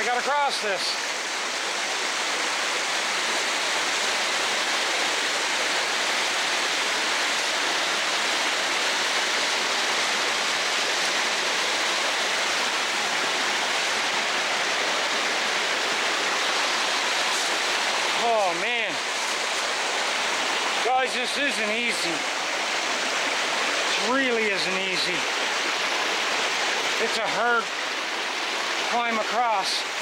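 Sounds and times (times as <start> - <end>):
brook water tumbling over rocks: 0.0 - 30.0
waterfall rushing: 0.0 - 30.0.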